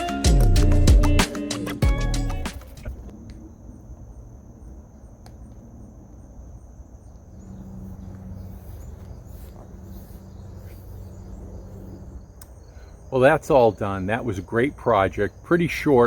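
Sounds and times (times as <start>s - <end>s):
insects trilling: 2.6s - 16.0s.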